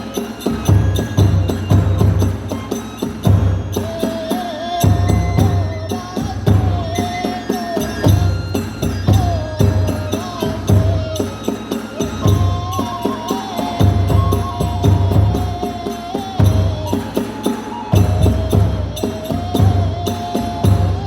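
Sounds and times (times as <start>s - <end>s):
bamboo flute melody: 0.0s - 21.0s
deep drum beats: 0.0s - 21.0s
small hand cymbals clashing: 0.0s - 21.0s.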